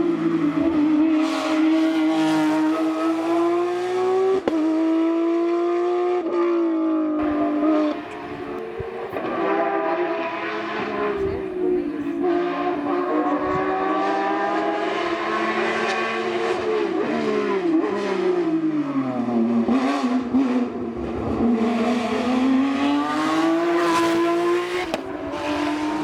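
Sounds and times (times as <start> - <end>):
race car engine revving: 0.0 - 5.8, 7.2 - 26.0.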